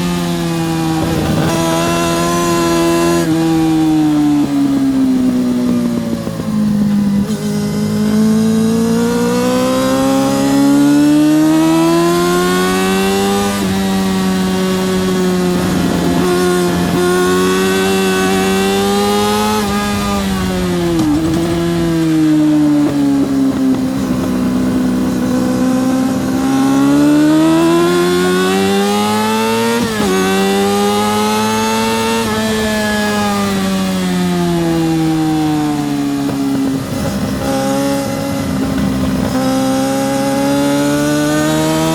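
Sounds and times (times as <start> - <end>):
engine blips on downshifts: 0.0 - 41.9
motorcycle engine at racing revs: 0.0 - 41.9
wind rush: 0.0 - 41.9.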